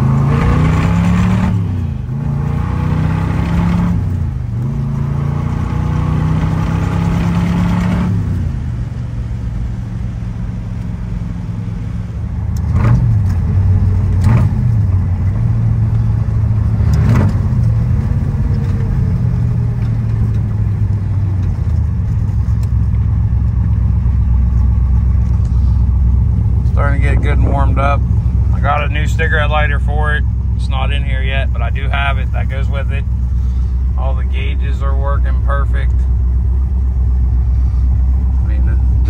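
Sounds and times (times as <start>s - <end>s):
car engine while driving: 0.0s - 39.0s.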